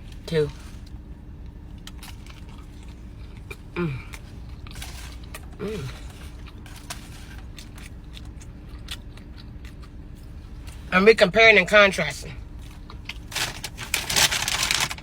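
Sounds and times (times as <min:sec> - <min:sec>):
crunchy chewing: 0:00.0 - 0:10.9, 0:12.5 - 0:15.0.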